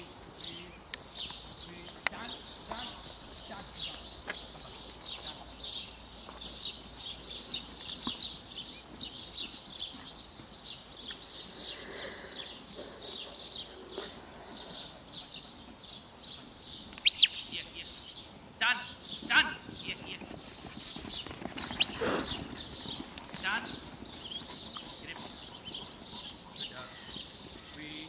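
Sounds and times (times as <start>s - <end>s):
birds chirping and singing: 0.0s - 28.0s.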